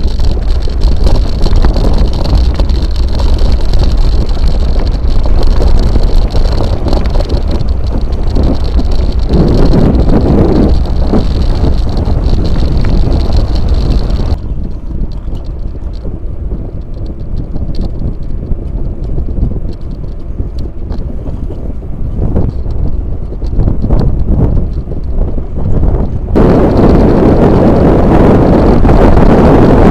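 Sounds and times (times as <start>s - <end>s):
bike tyre and frame rattle: 0.0s - 29.9s
tyre noise on asphalt: 0.0s - 29.9s
wind buffeting microphone: 0.0s - 29.9s.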